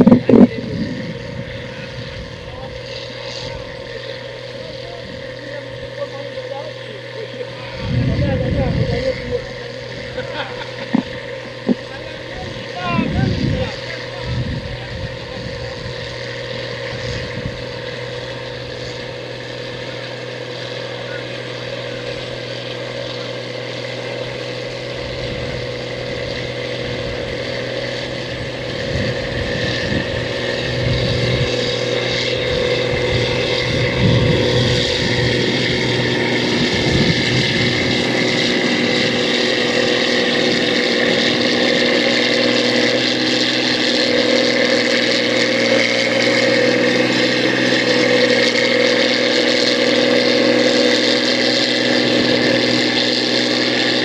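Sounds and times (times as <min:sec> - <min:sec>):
uneven low rumbles: 0:00.0 - 0:49.8
combine harvester engine drone: 0:00.0 - 0:54.0.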